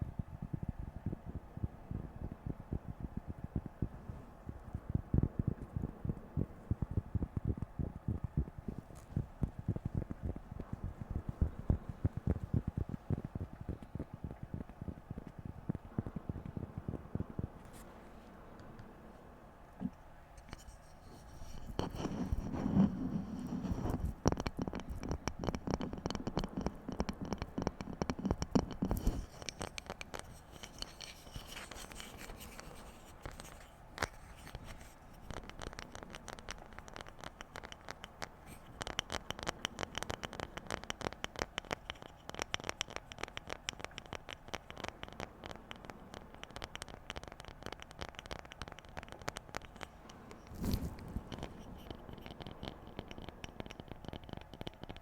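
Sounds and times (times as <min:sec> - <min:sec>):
light tapping on objects: 0:00.0 - 0:19.0, 0:19.8 - 0:55.0.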